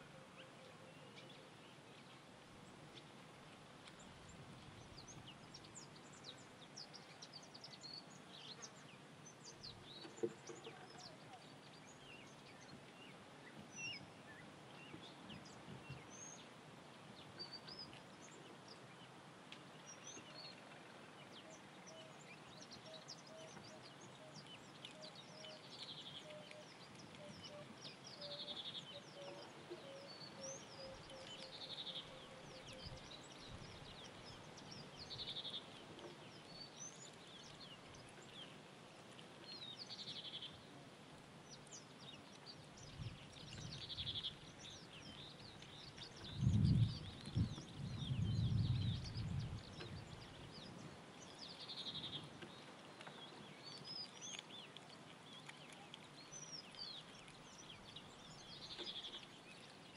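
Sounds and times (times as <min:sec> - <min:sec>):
buzzy bird song: 0:03.9 - 0:19.1, 0:19.7 - 0:40.8, 0:41.4 - 0:59.9.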